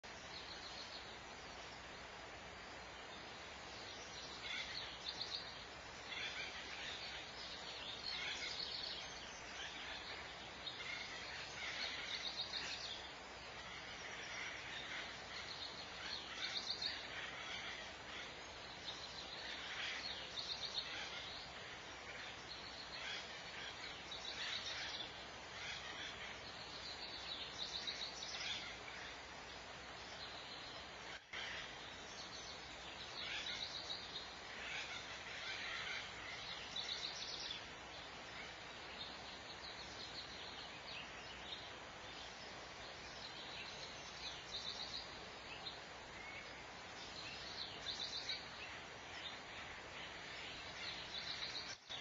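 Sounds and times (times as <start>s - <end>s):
background hiss: 0.0s - 52.0s.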